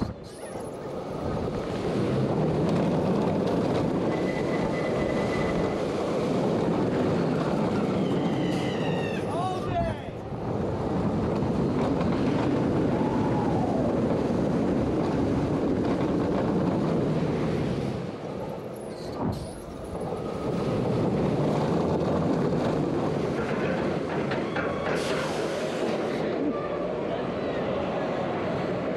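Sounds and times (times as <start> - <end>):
roller coaster wheel rumble: 0.0 - 28.9
wind rush: 0.8 - 24.3.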